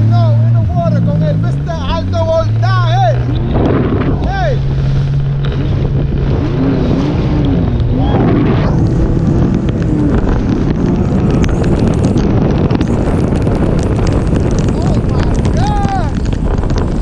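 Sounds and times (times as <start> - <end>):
jet ski engine running: 0.0 - 17.0
wind buffeting microphone: 0.0 - 17.0.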